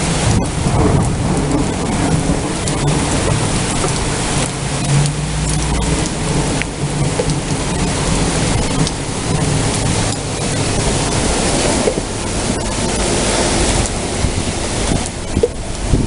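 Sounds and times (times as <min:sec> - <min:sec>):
heavy rain pouring: 0:00.0 - 0:16.0
wind buffeting microphone: 0:00.0 - 0:16.0.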